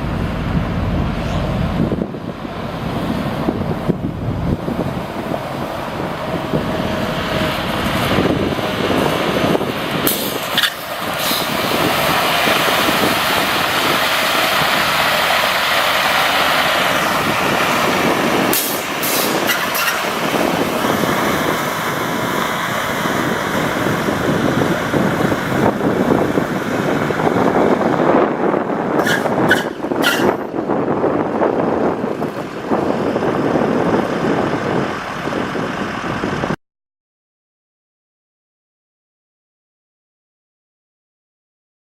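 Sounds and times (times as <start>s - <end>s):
truck hissing rush: 0.0s - 36.6s.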